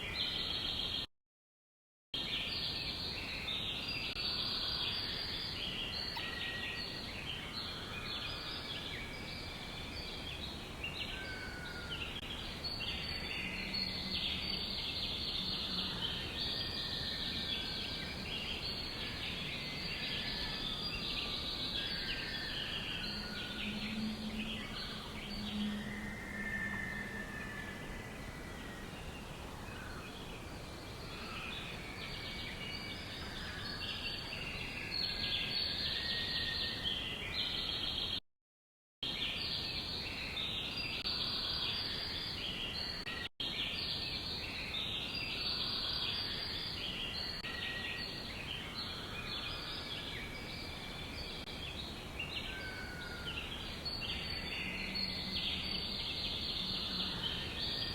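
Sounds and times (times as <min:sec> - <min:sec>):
small birds chirping and trilling: 0:00.0 - 0:01.1, 0:02.2 - 0:38.2, 0:39.0 - 0:57.9.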